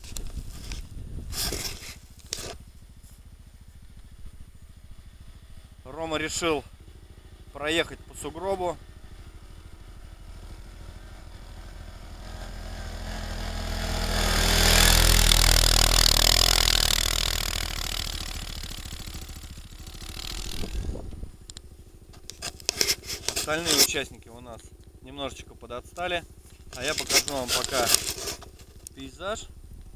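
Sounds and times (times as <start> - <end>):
off-road vehicle engine passing: 0.6 - 29.9.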